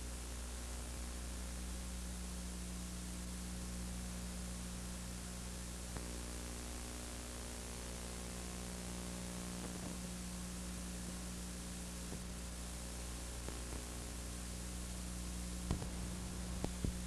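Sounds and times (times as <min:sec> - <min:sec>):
low electrical hum: 0:00.0 - 0:17.0
tape hiss: 0:00.0 - 0:17.0.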